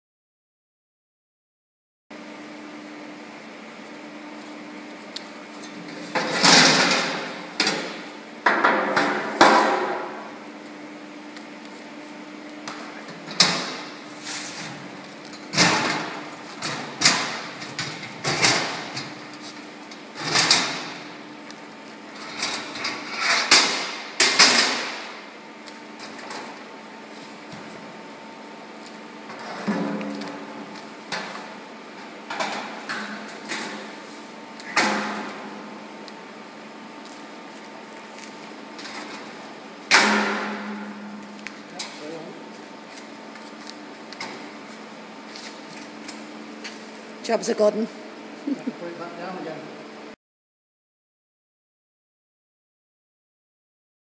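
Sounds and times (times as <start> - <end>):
steady low hum: 2.2 - 50.2.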